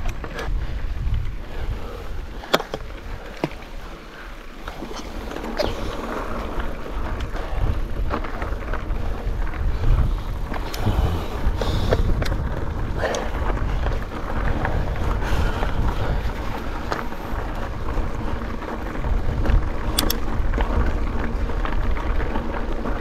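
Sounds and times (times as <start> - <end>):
wind buffeting microphone: 0.0 - 3.2, 5.2 - 23.0
bike rattling over bumps: 0.0 - 23.0.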